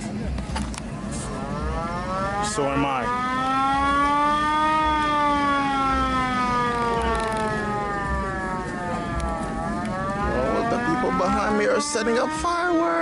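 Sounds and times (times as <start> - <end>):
siren wailing: 1.3 - 13.0.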